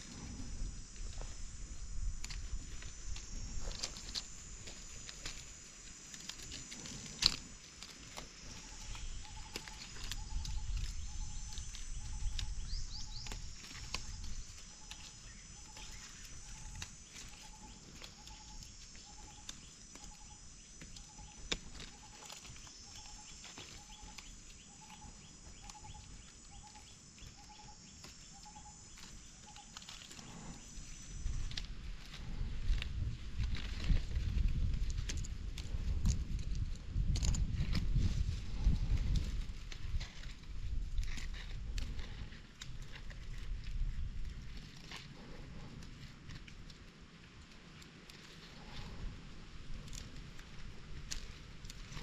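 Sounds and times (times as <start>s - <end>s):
high drone of insects: 0.0s - 52.0s.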